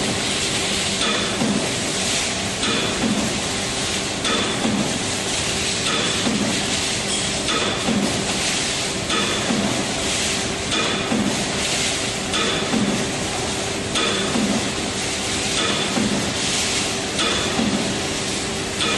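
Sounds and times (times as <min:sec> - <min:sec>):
steady machine hum: 0:00.0 - 0:18.9.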